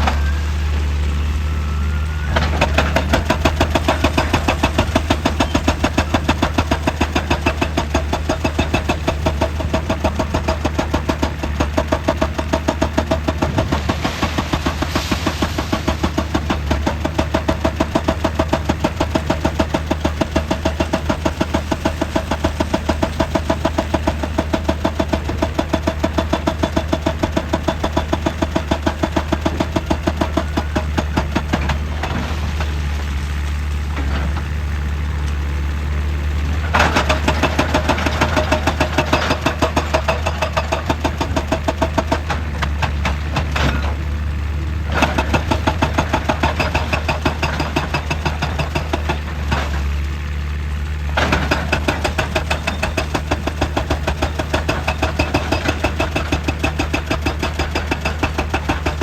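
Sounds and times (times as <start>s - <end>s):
diesel engine pulsing: 0.0s - 59.0s.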